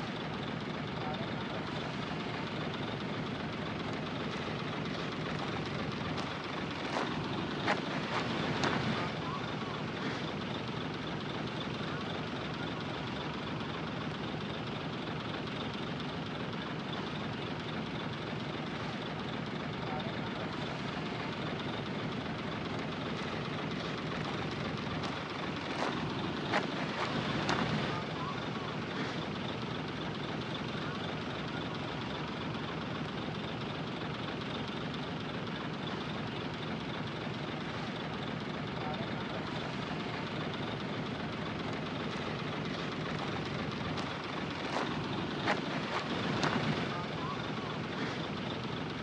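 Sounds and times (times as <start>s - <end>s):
heavy diesel machinery running: 0.0s - 49.0s.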